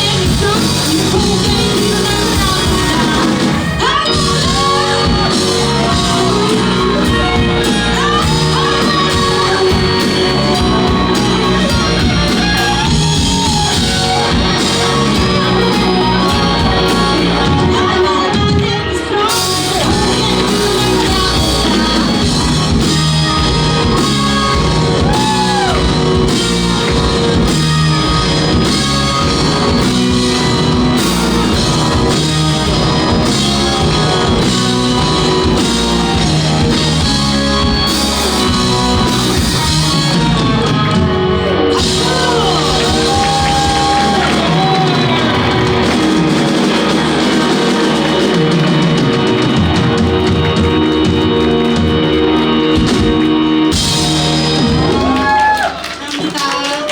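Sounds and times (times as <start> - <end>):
person singing: 0.0 - 50.0
bass guitar: 0.0 - 55.9
drum kit: 0.0 - 56.9
electric guitars: 0.0 - 56.9.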